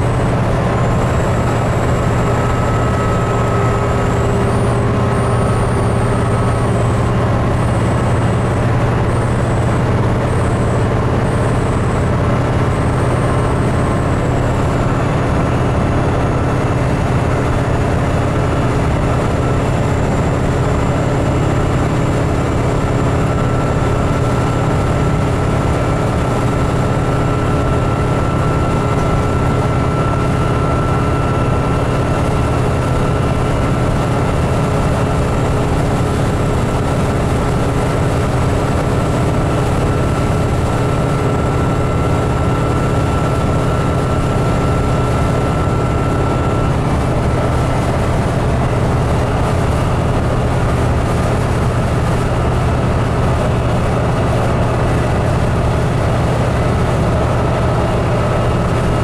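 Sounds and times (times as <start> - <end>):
bus engine drone: 0.0 - 59.0
road and tyre noise: 0.0 - 59.0.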